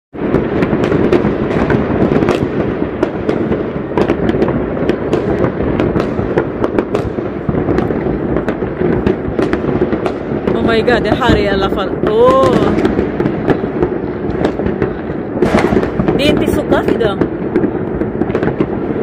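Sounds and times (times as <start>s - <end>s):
fireworks banging: 0.2s - 19.0s
sharp firework cracks: 0.2s - 19.0s.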